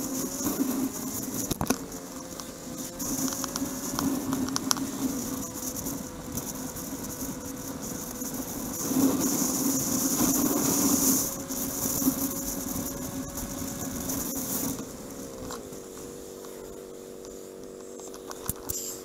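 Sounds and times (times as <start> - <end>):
wind rushing over microphone: 0.0 - 15.9
motorcycle engine running: 0.0 - 19.0.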